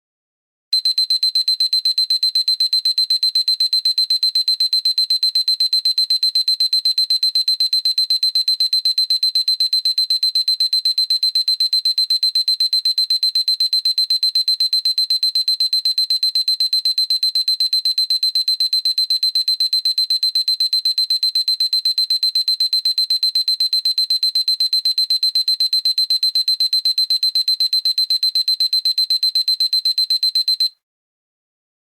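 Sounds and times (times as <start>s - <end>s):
alarm clock rapid beeping: 0.8s - 30.7s.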